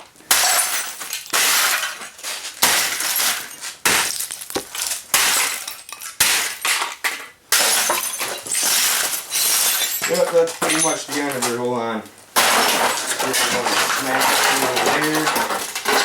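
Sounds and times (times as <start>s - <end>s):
glass shattering: 0.3s - 11.7s, 12.4s - 16.0s.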